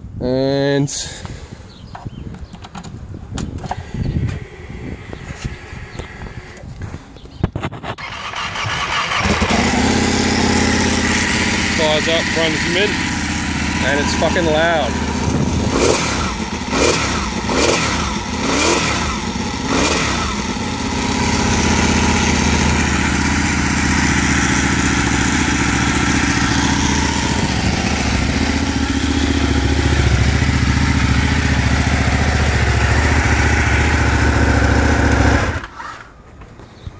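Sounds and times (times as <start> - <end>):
motorcycle engine revving: 3.7 - 6.7, 8.0 - 36.0.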